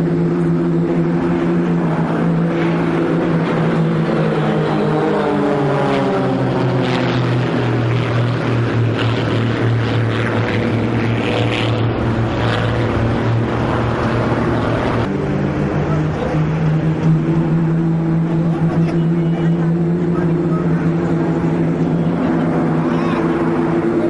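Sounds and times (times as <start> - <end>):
propeller plane engines droning: 0.0 - 24.0.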